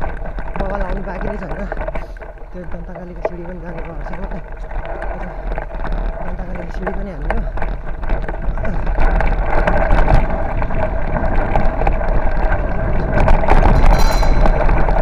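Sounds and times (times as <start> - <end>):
bicycle rumbling over dirt: 0.0 - 15.0
bike knocks and rattles: 0.0 - 15.0
wind buffeting microphone: 0.0 - 15.0.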